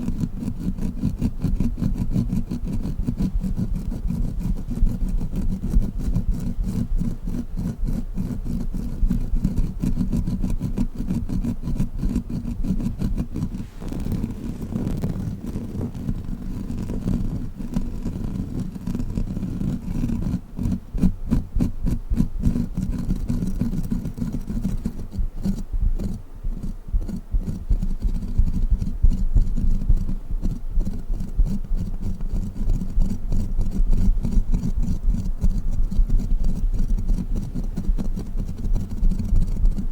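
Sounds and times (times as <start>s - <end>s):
rapid sticky clicks: 0.0s - 39.9s.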